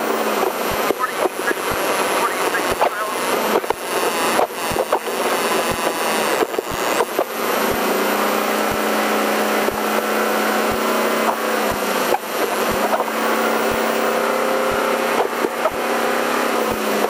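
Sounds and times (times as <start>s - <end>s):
truck engine running hard: 0.0s - 17.0s.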